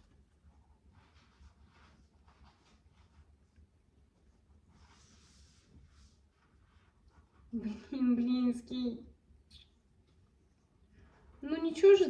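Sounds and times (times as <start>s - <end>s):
faint soft rustles: 0.0s - 8.1s, 9.5s - 11.5s.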